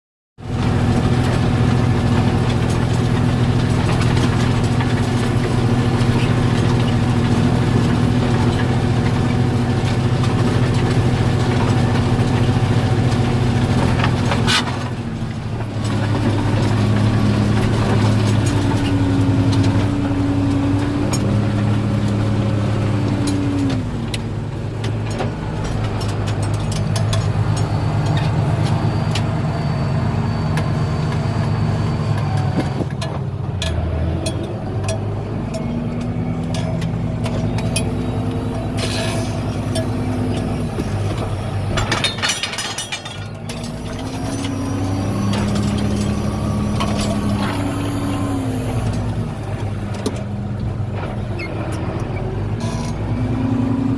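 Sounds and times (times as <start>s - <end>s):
tractor diesel engine running: 0.4s - 53.9s.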